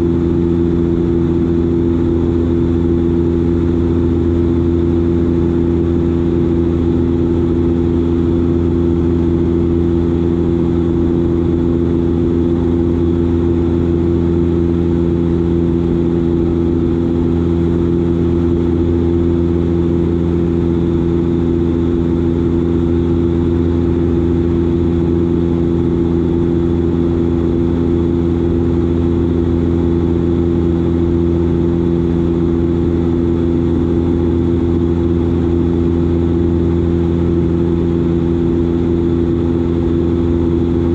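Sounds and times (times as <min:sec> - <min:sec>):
turboprop engine drone: 0:00.0 - 0:40.9.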